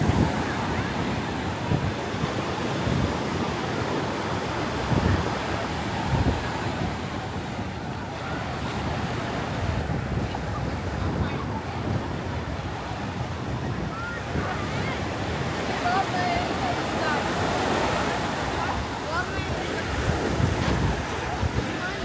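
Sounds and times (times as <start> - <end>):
ocean waves breaking on beach: 0.0 - 22.0
wind buffeting microphone: 0.0 - 22.0.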